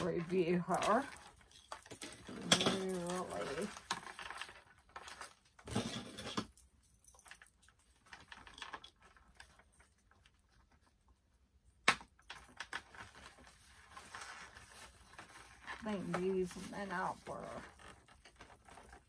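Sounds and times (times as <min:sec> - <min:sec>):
plastic packaging rustling: 0:00.0 - 0:10.9, 0:12.4 - 0:19.0.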